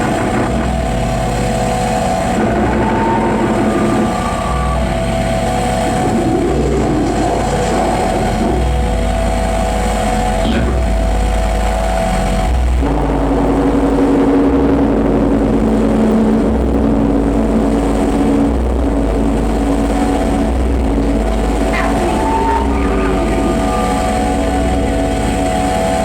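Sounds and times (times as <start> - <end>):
electronic drones: 0.0 - 26.0
throbbing bass pulse: 0.0 - 26.0.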